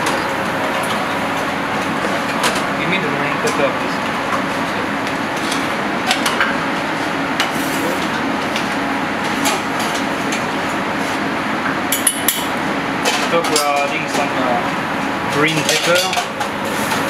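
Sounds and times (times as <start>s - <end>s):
ventilation rushing and humming: 0.0s - 17.0s.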